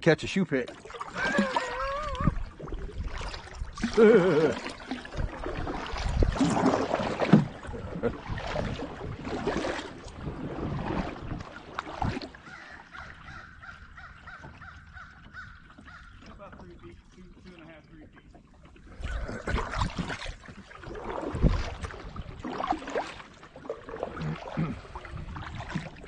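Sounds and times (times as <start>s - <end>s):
paddle splashing in water: 0.5s - 26.0s.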